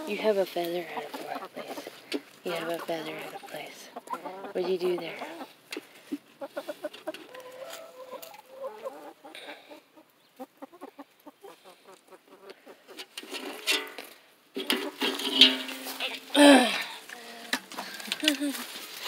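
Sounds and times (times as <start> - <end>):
hens clucking: 0.0 - 13.8, 14.6 - 19.0.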